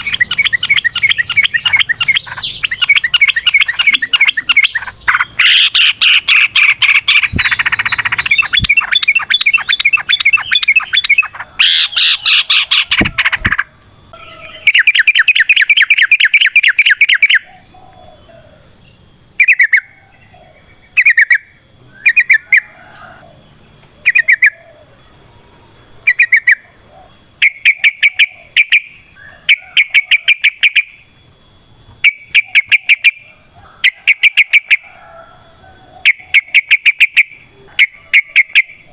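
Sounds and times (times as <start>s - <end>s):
bird singing fast chattering phrases: 0.0s - 13.7s, 14.4s - 22.8s, 23.4s - 25.2s, 26.0s - 34.8s, 36.0s - 38.9s.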